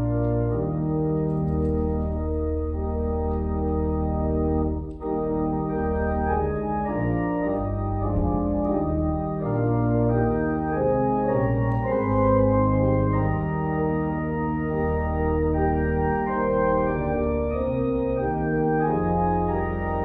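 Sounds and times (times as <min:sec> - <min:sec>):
church organ playing hymn: 0:00.0 - 0:20.0.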